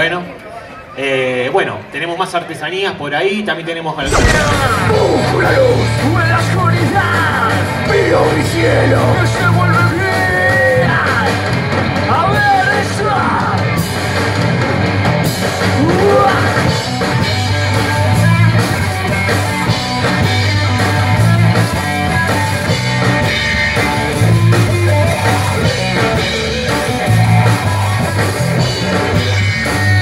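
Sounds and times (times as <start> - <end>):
drums: 4.0 - 30.0.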